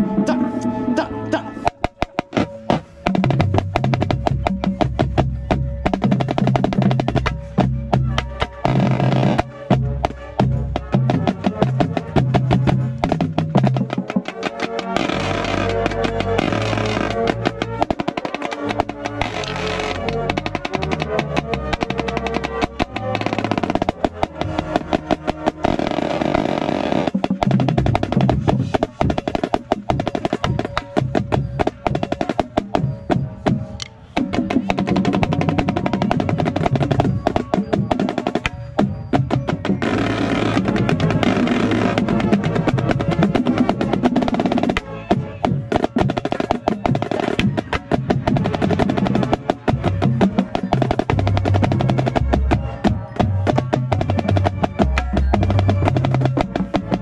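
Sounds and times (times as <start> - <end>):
marching band playing: 0.0 - 57.0
snare drum strokes and rolls: 0.0 - 57.0.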